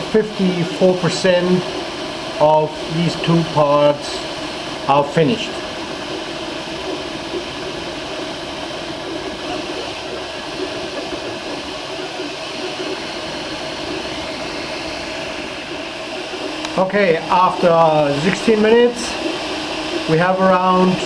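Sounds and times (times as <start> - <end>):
printer motors whirring: 0.0 - 21.0.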